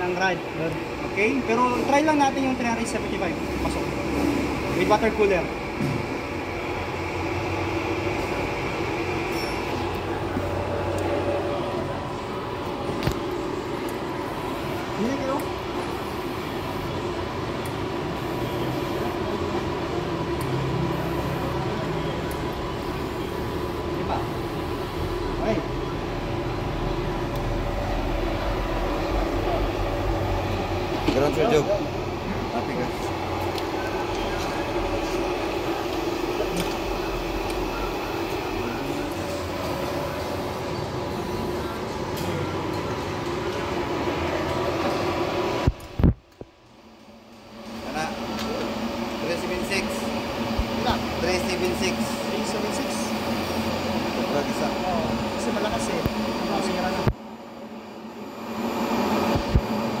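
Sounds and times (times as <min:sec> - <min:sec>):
welding machine hum: 0:00.0 - 1:00.0.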